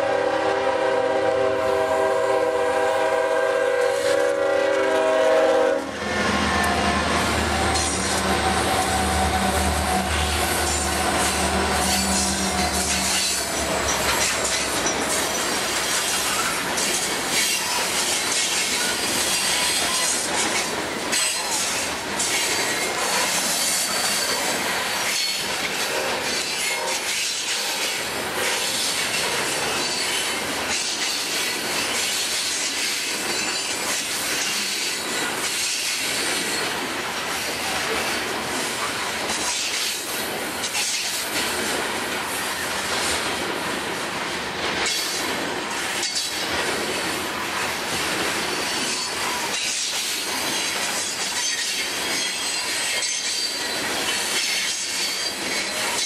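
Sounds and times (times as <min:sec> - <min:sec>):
train wheels rattling on rails: 0:00.0 - 0:56.0
wheels clicking over rail joints: 0:06.5 - 0:56.0.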